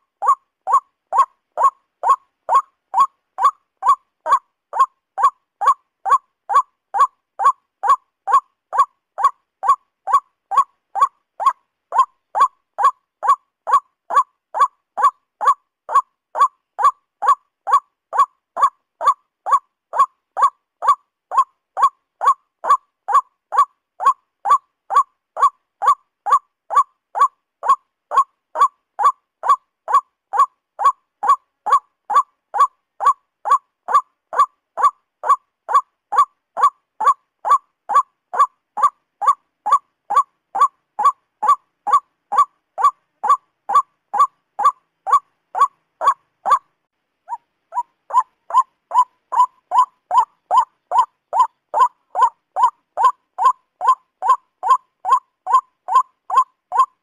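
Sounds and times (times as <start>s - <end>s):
waterhen calling: 0.0s - 46.7s, 47.3s - 57.0s.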